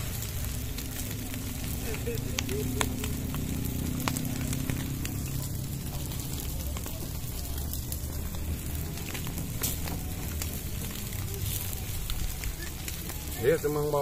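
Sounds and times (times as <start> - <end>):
campfire crackling and popping: 0.0 - 14.0
low rumble: 0.0 - 14.0.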